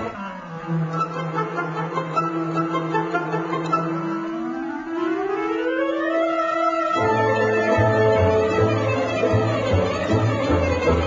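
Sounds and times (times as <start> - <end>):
dramatic orchestral music: 0.0 - 11.0.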